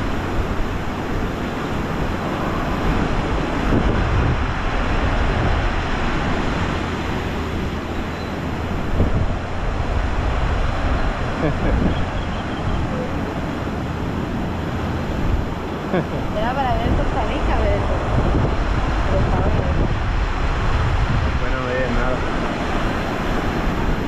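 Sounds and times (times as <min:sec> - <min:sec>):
ocean surf washing: 0:00.0 - 0:24.0
wind buffeting microphone: 0:00.0 - 0:24.0.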